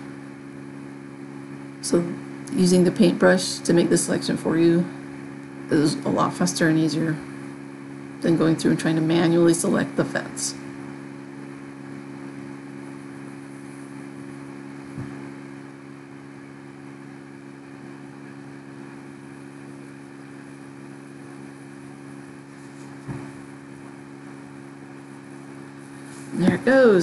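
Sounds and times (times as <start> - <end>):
low background hum: 0.0 - 27.0.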